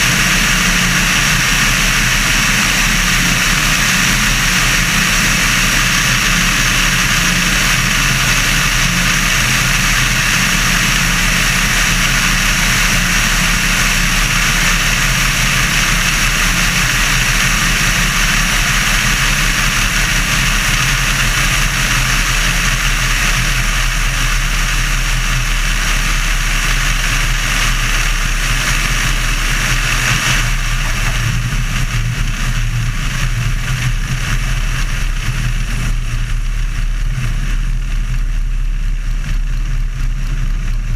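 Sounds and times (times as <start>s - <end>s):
aircraft engine drone: 0.0s - 40.9s
propeller and airflow hiss: 0.0s - 40.9s.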